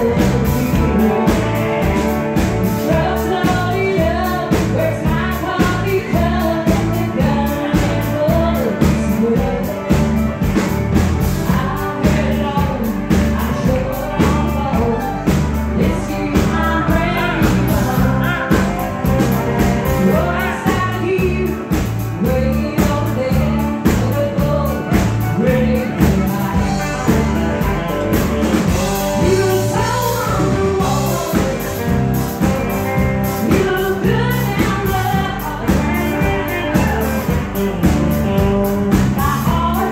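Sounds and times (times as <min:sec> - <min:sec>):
country song with singing: 0:00.0 - 0:39.9.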